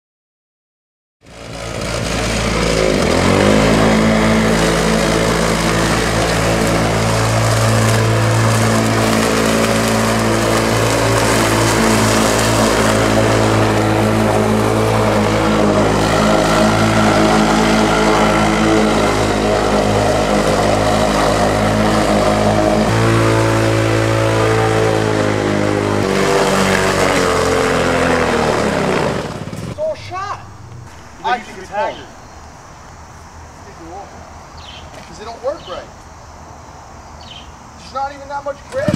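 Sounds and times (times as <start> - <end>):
lawn mower engine: 1.2 - 38.9.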